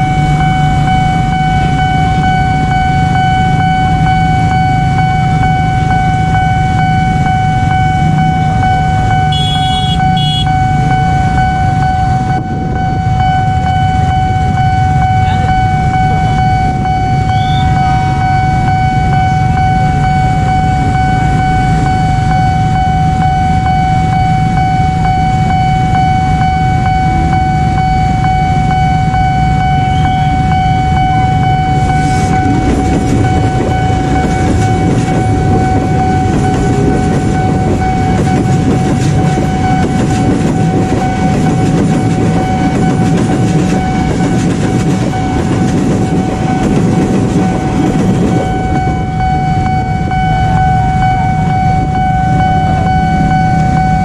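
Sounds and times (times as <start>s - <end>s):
crossing warning tone: 0.0s - 54.0s.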